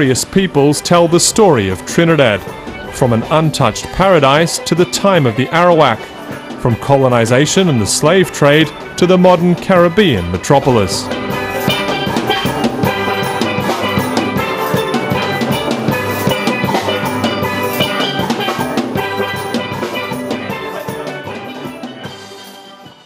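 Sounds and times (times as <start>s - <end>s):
music with rapid percussive strikes: 0.0s - 23.0s.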